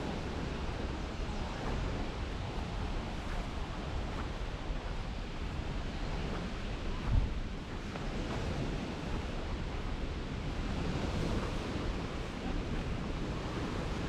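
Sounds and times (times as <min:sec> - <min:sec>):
small waves washing on shore: 0:00.0 - 0:14.0
wind buffeting microphone: 0:00.0 - 0:14.0.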